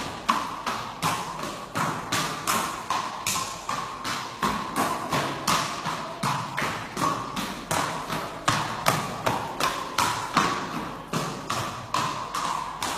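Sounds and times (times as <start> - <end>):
horse hoofbeats on hard floor: 0.0 - 12.9.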